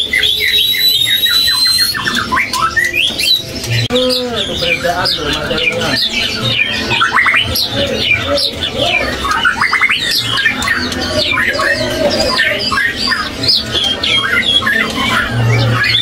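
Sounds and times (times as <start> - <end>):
songbirds calling and singing: 0.0 - 16.0.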